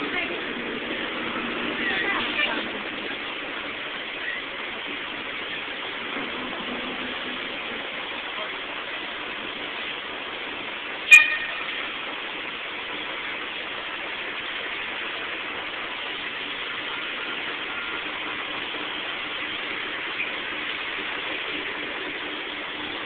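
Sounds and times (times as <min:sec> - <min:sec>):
bus and traffic noise: 0:00.0 - 0:23.0.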